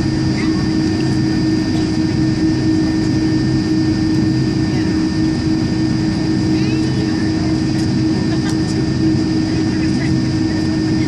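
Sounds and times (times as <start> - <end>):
aircraft cabin engine rumble: 0.0 - 11.0
faint passenger voices: 0.1 - 11.0.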